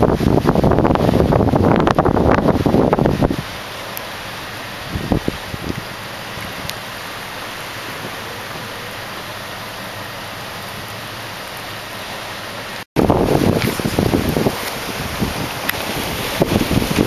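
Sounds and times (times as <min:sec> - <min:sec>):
strong wind rushing: 0:00.0 - 0:09.7, 0:11.9 - 0:17.0
wind gusts buffeting microphone: 0:00.0 - 0:17.0.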